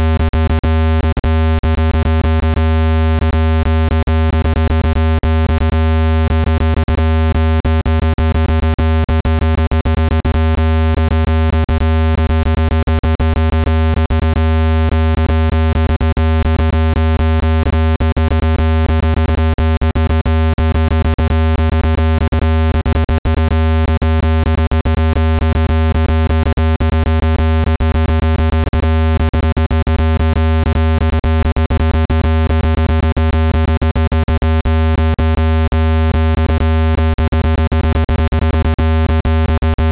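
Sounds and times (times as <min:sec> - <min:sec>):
low synthesized buzz tone: 0:00.0 - 0:39.9.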